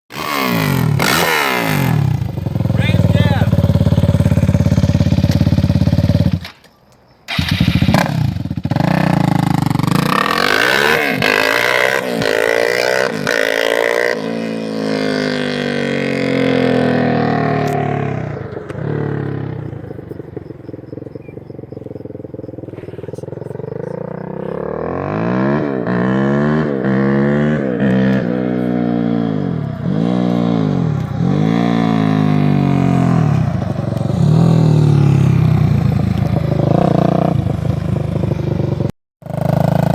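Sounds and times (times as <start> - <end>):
quad engine revving: 0.1 - 6.5, 7.3 - 39.9.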